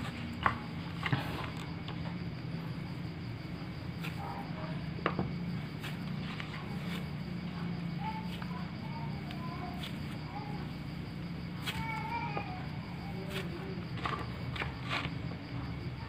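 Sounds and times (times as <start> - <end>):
hands kneading crumbly mix: 0.0 - 15.8
faint distant voices: 0.0 - 16.0
steady low hum: 0.0 - 16.0.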